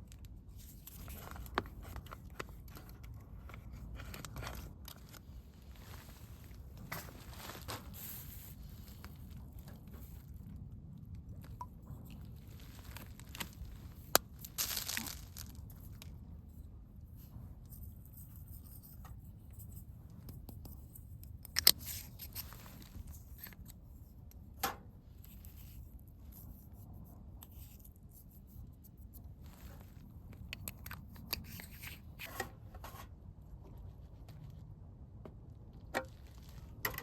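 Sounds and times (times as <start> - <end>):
rustling and handling noises: 0.0 - 34.7, 35.9 - 37.0.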